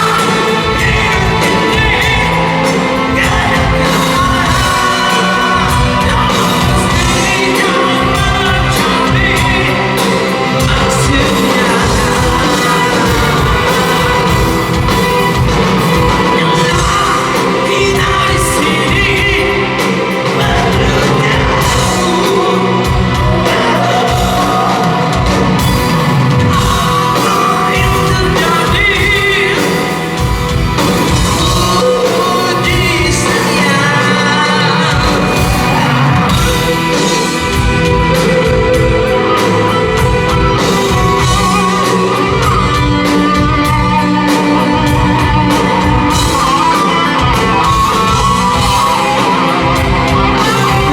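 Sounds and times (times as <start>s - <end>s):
drum beat: 0.0s - 50.9s
live rock band: 0.0s - 50.9s
person singing: 0.0s - 50.9s.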